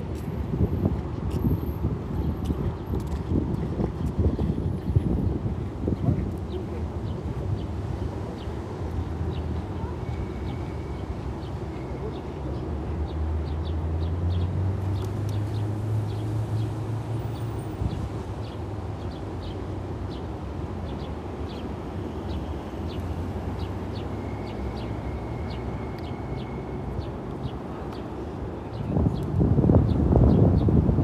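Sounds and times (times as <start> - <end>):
low traffic hum: 0.0 - 31.0.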